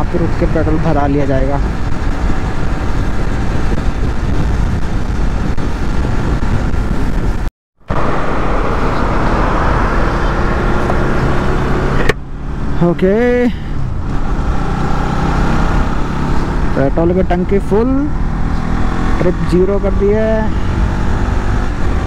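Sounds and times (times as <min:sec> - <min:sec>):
road noise: 0:00.0 - 0:22.0
wind rushing over microphone: 0:00.0 - 0:22.0
motorcycle engine: 0:00.8 - 0:22.0.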